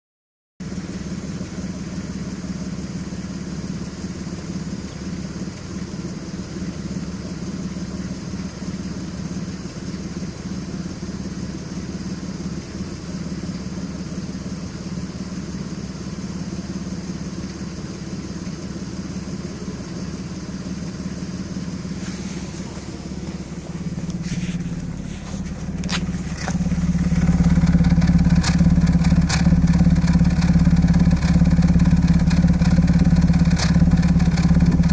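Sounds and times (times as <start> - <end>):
car engine idling with misfire: 0.6 - 34.9.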